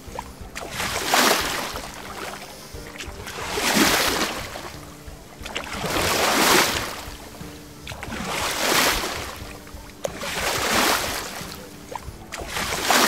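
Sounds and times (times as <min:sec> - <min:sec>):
faint background music: 0:00.0 - 0:13.0
sea waves washing in: 0:00.0 - 0:13.0.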